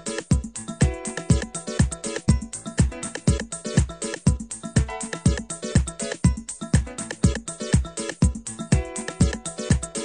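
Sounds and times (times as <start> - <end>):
background music with low thumps: 0.0 - 10.0.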